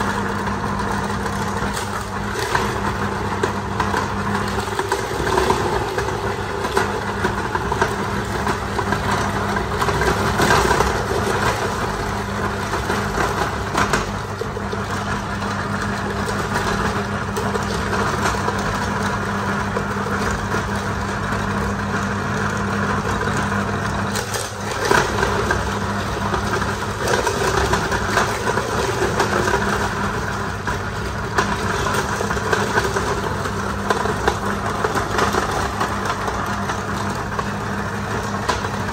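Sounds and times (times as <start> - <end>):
meat grinder grinding bones: 0.0 - 38.9.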